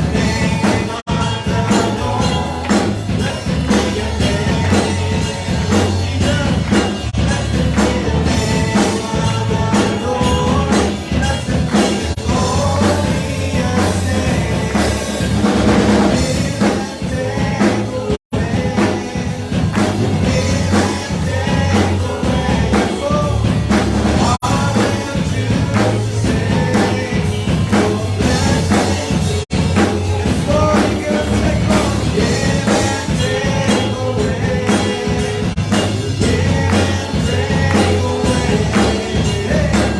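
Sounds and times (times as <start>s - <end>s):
drum kit: 0.0s - 39.9s
rock band playing: 0.0s - 39.9s
singing: 0.0s - 39.9s.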